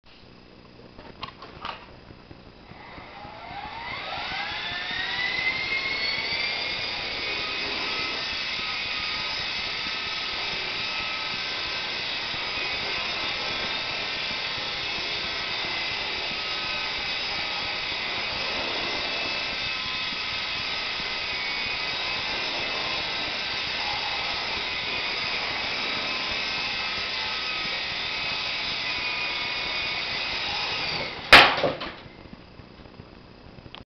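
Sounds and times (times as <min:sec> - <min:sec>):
rc helicopter motor whine: 0:00.6 - 0:33.7
helicopter crash crack: 0:03.0 - 0:32.5.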